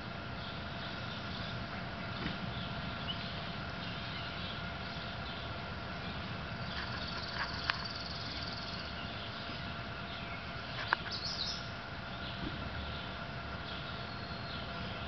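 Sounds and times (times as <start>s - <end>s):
outdoor hiss and rumble: 0.0s - 15.0s.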